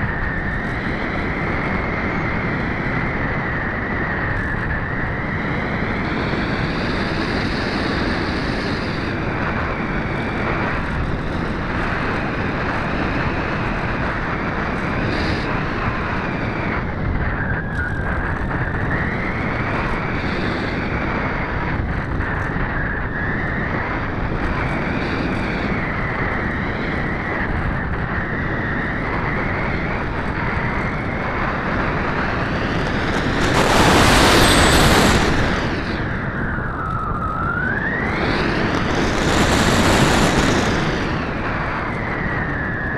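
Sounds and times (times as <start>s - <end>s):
model plane in-flight noise: 0.0s - 42.9s.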